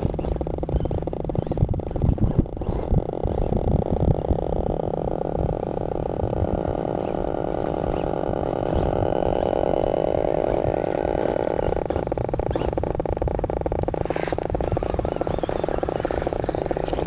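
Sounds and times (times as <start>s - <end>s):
electric motor and gears whining: 0.0s - 17.0s
low rumble: 0.0s - 17.0s.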